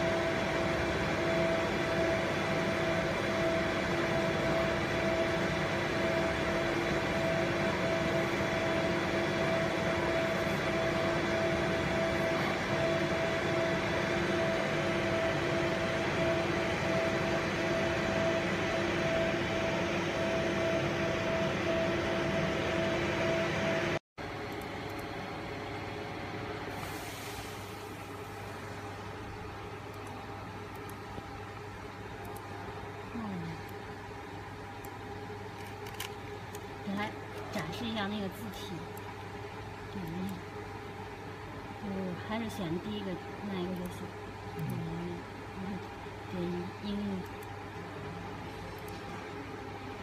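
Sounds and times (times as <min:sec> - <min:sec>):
machine hum with steady tones: 0:00.0 - 0:50.0.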